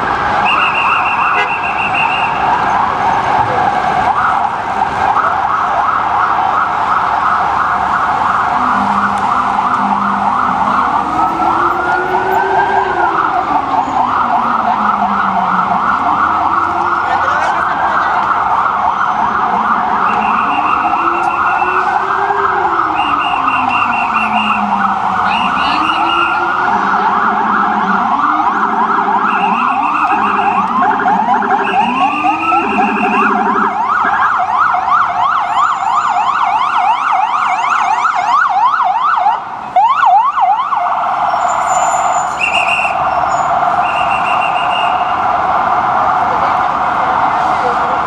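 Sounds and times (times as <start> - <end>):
ambulance siren wailing and yelping: 0.0 - 48.0.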